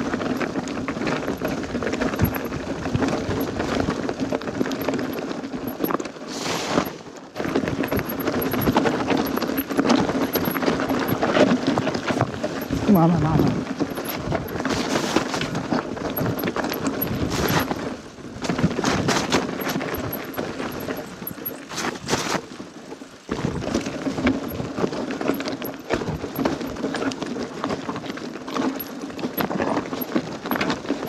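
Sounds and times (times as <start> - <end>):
mountain bike rattling on rocks: 0.0 - 31.0.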